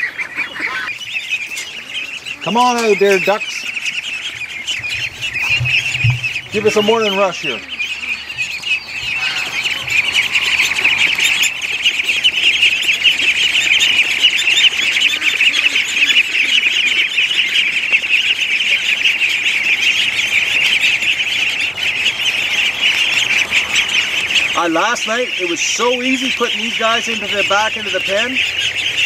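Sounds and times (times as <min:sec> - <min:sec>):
ducklings peeping: 0:00.0 - 0:29.0
ducks and geese calling: 0:00.0 - 0:29.0.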